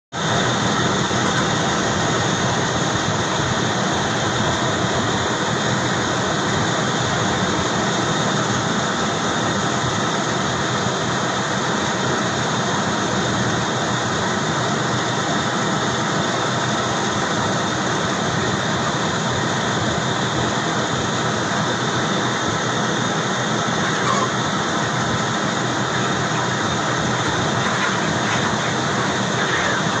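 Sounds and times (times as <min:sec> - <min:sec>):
ventilation fans whirring: 0:00.1 - 0:30.0.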